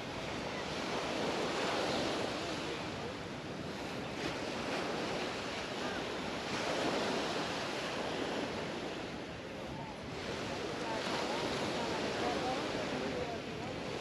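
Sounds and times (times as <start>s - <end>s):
small waves washing up beach: 0.0s - 14.0s
wind on microphone: 0.0s - 14.0s.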